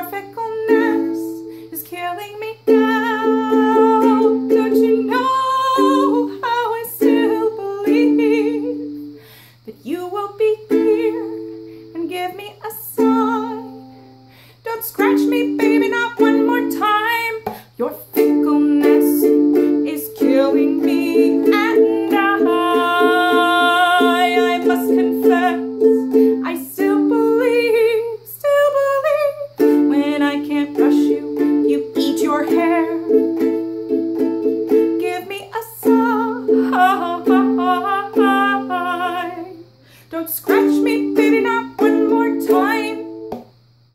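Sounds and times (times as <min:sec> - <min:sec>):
ukulele strummed in chords: 0:00.0 - 0:09.1, 0:10.0 - 0:39.6, 0:40.2 - 0:43.5
woman singing: 0:00.0 - 0:43.4.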